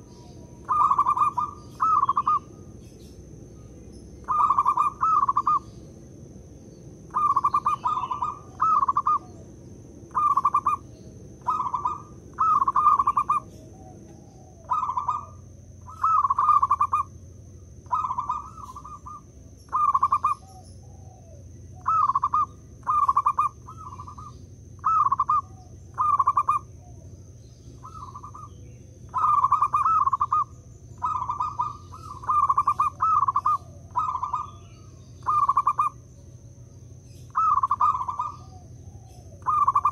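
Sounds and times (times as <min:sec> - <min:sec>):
dove cooing: 0:00.0 - 0:02.8, 0:04.2 - 0:05.8, 0:07.0 - 0:39.9.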